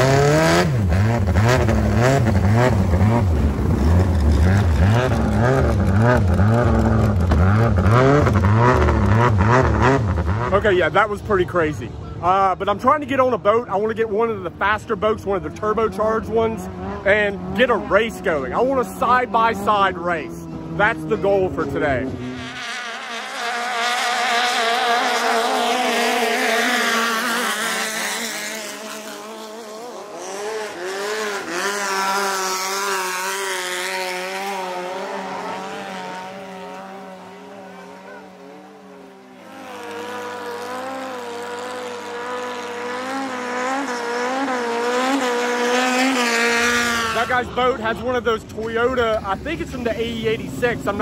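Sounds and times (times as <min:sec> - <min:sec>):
boat engines revving: 0:00.0 - 0:51.0.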